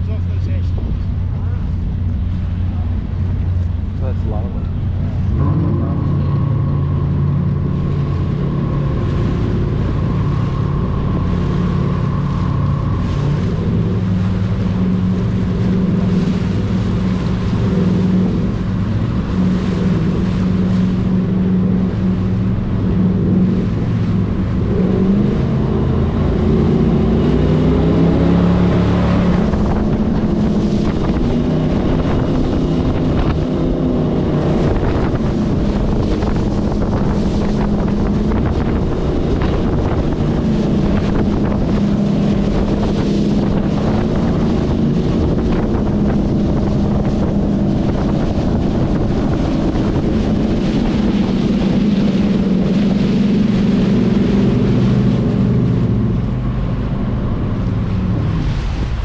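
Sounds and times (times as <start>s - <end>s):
boat engines running: 0.0s - 59.0s.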